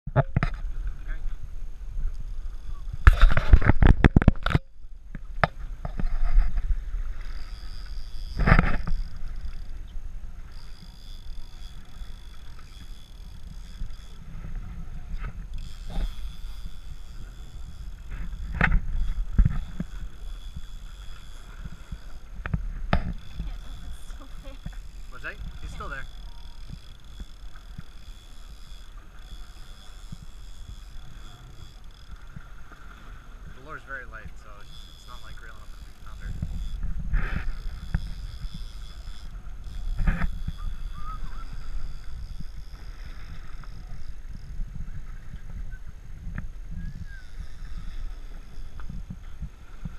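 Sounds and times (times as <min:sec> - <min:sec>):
boat engine rumble: 0:00.1 - 0:49.9
wind buffeting microphone: 0:00.2 - 0:49.9.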